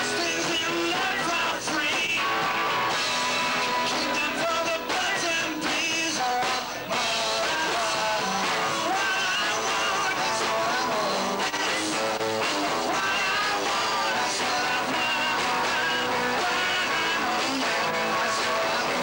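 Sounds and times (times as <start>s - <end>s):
man singing: 0.0s - 2.6s, 3.6s - 19.0s
electric guitar: 0.0s - 19.0s.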